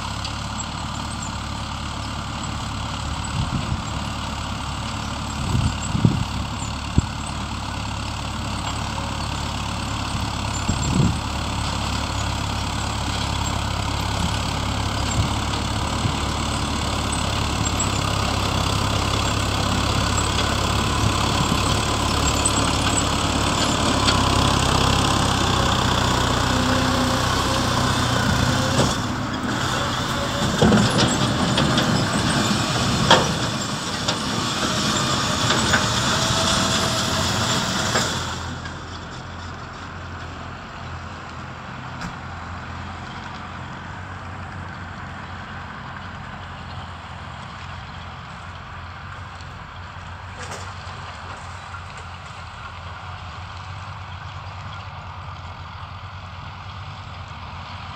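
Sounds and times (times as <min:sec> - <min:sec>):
harvester running: 0:00.0 - 0:57.9
tractor engine running: 0:00.0 - 0:57.9.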